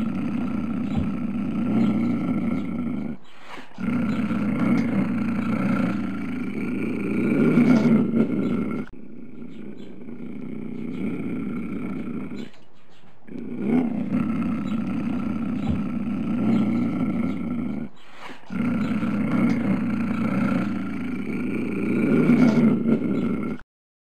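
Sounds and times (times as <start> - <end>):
tiger growling and roaring: 0.0 - 12.6, 13.3 - 23.6.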